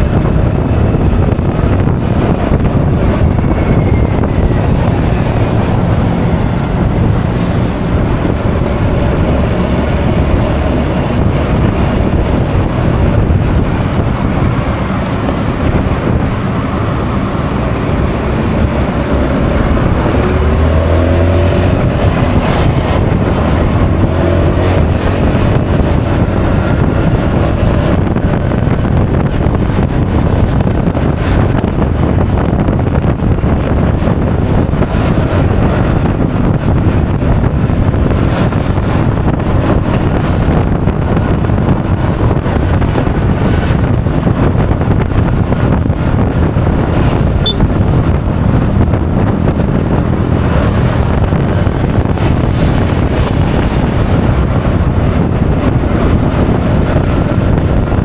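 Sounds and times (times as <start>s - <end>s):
scooter engine and road noise: 0.0s - 58.0s
wind buffeting microphone: 0.0s - 58.0s.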